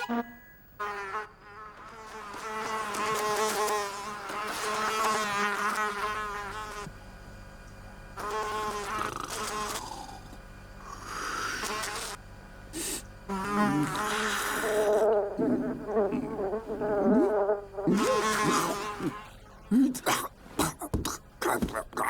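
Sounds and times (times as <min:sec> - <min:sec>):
cartoon fly buzzing: 0:00.0 - 0:06.9, 0:08.2 - 0:12.2, 0:12.8 - 0:22.0.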